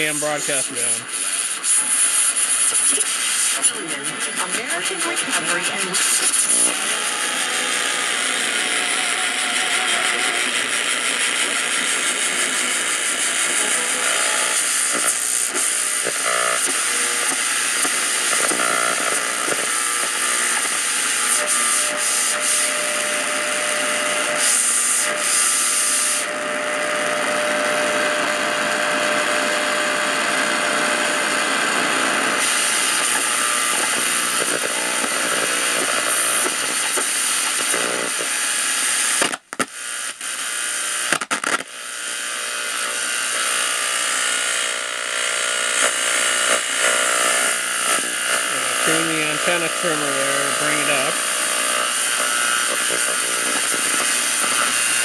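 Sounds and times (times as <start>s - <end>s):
radio static and hiss: 0.0s - 55.0s.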